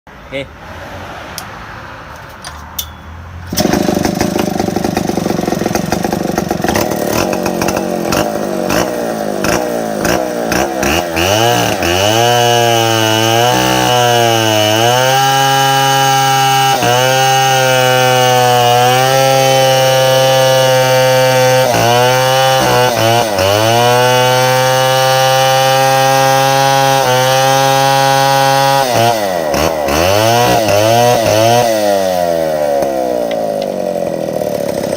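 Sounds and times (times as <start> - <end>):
chainsaw revving: 3.4 - 34.9.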